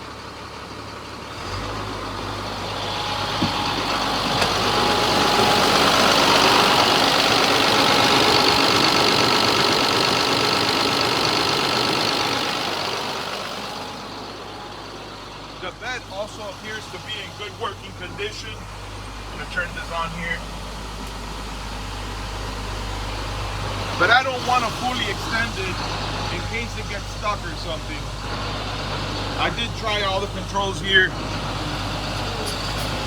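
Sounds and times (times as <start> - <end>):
diesel truck engine revving: 0.0 - 33.0.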